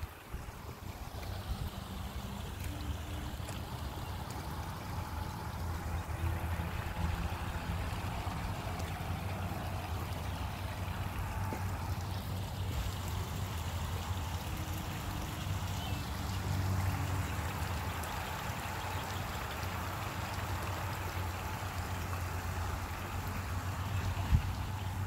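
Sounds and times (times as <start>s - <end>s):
low steady rumble: 0.0s - 25.0s
running and trickling water: 0.0s - 25.0s.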